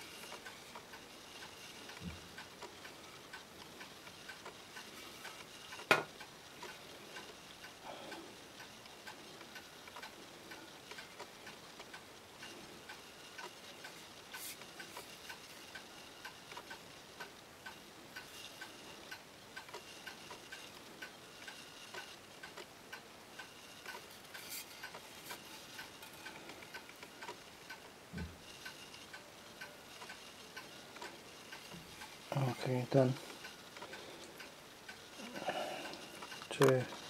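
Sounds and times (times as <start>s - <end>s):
regular ticking: 0.1s - 37.0s.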